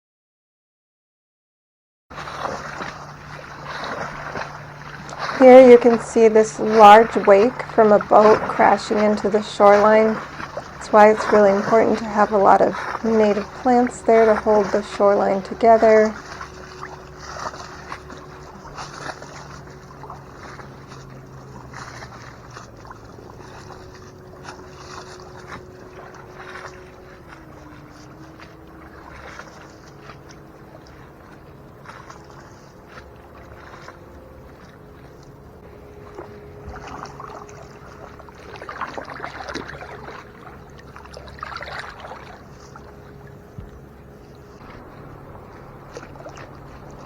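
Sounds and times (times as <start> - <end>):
distant motorboat engine drone: 2.1 - 47.0
water splashing and lapping: 2.1 - 47.0.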